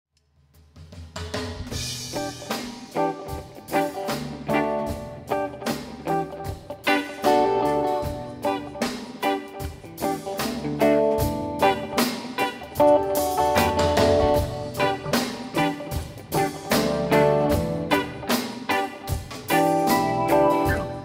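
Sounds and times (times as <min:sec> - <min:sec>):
steady drumbeat: 0:00.5 - 0:21.0
electric guitars: 0:01.7 - 0:21.0
keyboard: 0:02.1 - 0:21.0.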